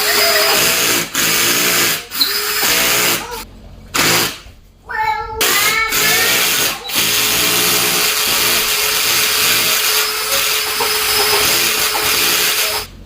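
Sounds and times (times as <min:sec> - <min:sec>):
power drill boring through drywall: 0:00.0 - 0:03.4, 0:04.0 - 0:04.4, 0:05.4 - 0:12.9.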